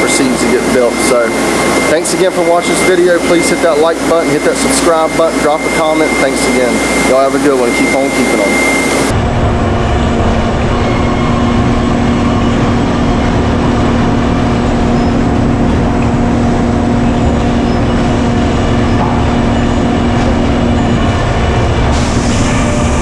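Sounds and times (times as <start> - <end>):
machine drone: 0.0 - 23.0.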